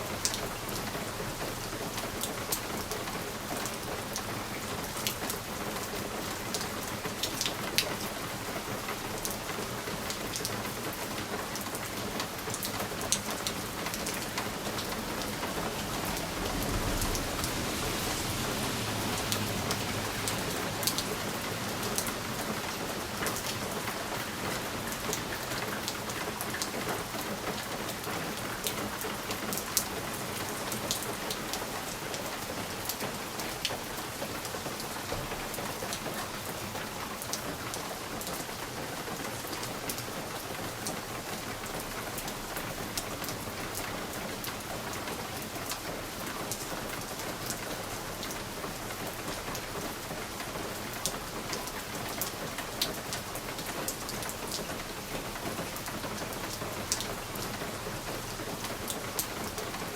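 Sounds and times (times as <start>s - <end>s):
rain on a window: 0.0s - 59.9s.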